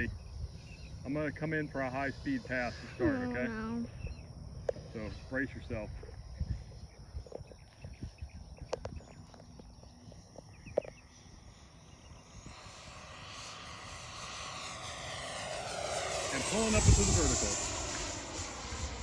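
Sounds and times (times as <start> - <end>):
model jet rushing whine: 0.0 - 7.2, 9.2 - 19.0
faint outdoor noise: 0.0 - 18.9.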